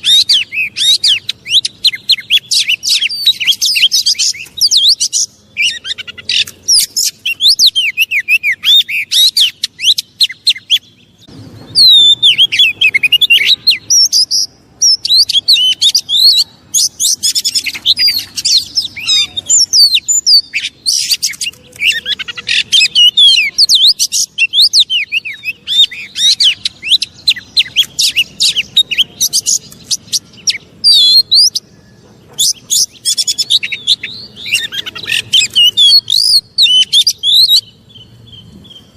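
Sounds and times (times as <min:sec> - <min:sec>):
magpie-robin singing: 0:00.0 - 0:38.9.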